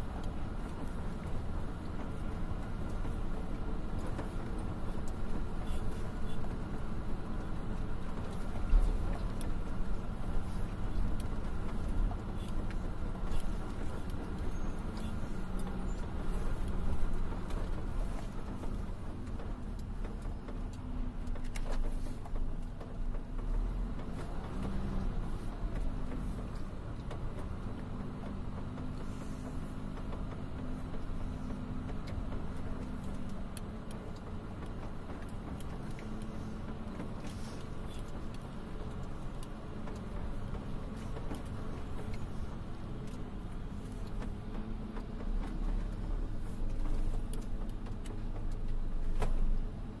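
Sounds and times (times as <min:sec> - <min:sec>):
low engine rumble: 0:00.0 - 0:50.0.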